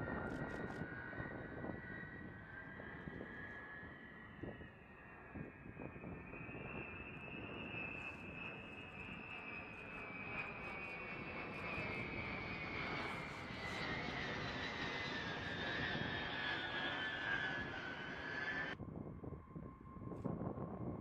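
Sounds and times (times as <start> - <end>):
jet engines flying over: 0.0 - 21.0.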